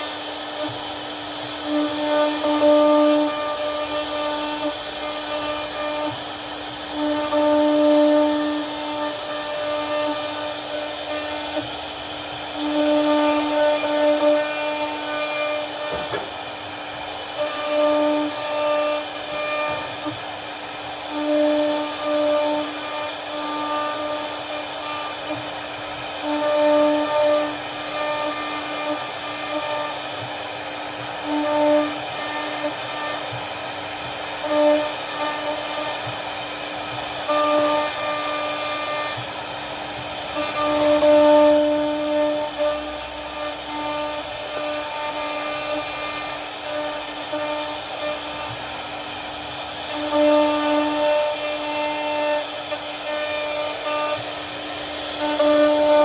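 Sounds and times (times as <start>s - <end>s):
router bit cutting wood: 0.0s - 56.0s
router spindle whining: 0.0s - 56.0s.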